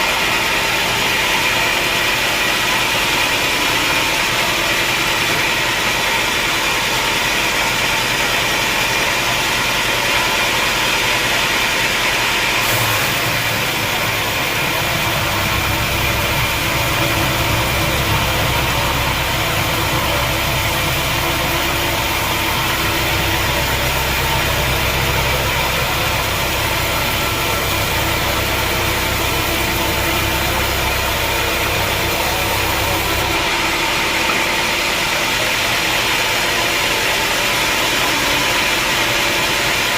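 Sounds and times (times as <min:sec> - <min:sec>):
deep machinery rumble: 0:00.0 - 0:39.9
sawmill machinery hissing: 0:00.0 - 0:39.9.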